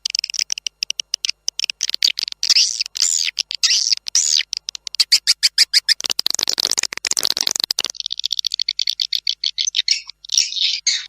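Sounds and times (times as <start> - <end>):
high clicking chirps: 0.0 - 11.0.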